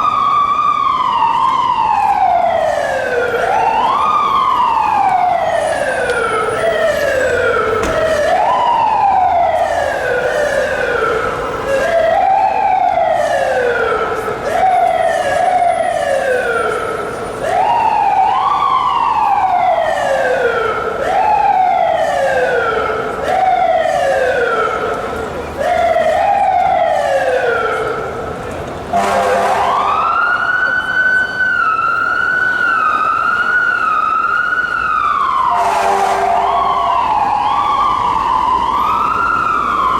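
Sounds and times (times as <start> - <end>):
fire engine siren wailing: 0.0 - 39.9.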